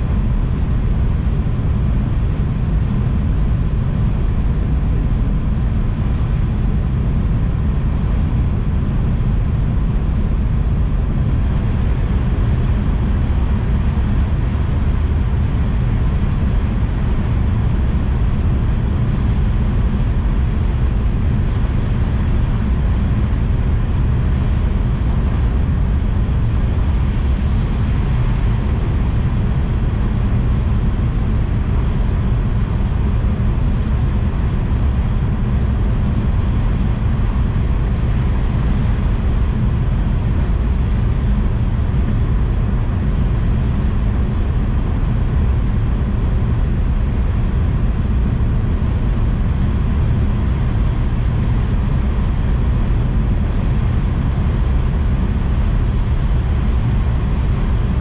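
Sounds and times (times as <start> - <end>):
train running at high speed: 0.0 - 58.0.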